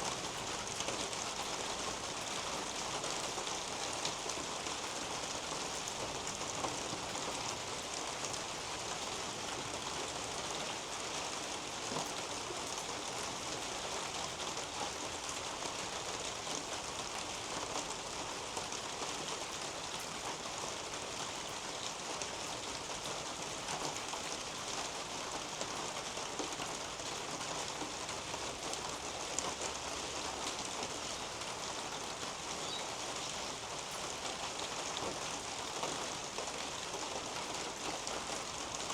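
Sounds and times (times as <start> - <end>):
rain on roof and leaves: 0.0 - 38.9.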